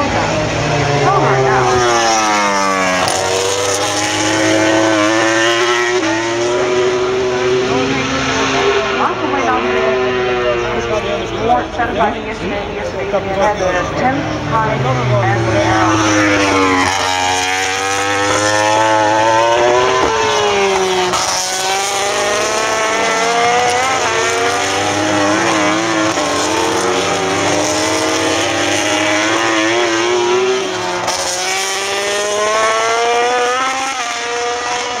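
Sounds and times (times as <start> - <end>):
racing motorcycle engines revving: 0.0 - 35.0.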